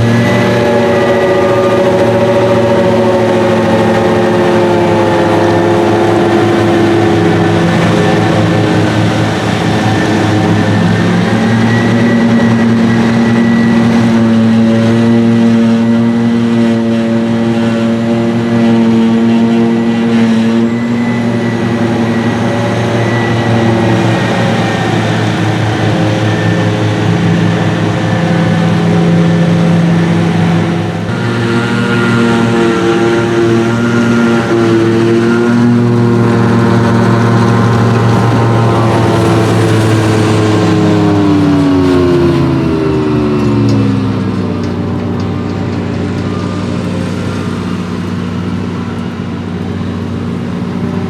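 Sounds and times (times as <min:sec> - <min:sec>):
heavy diesel engines running: 0:00.0 - 0:51.0.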